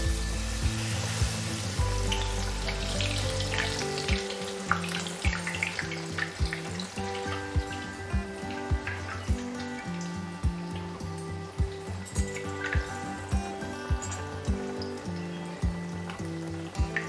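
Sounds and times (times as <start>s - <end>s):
background music with a beat: 0.0s - 17.0s
bread deep-frying in hot oil: 0.0s - 17.0s
sharp crackles and pops of oil: 1.0s - 17.0s.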